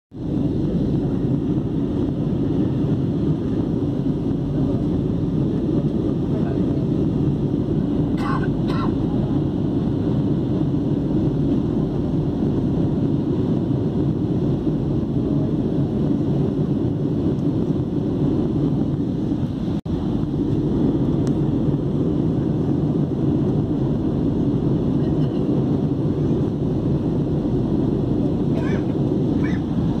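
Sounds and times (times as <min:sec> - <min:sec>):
airliner cabin engine rumble: 0:00.1 - 0:30.0.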